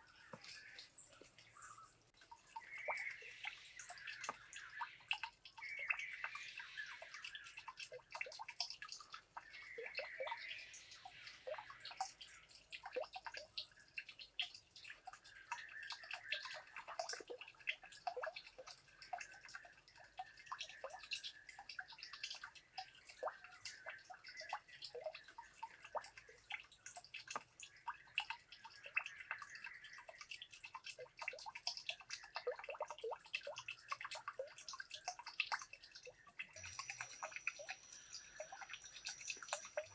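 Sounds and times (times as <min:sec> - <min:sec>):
water drips and splashes: 0:00.0 - 0:39.9
water trickling into pond: 0:00.0 - 0:39.9.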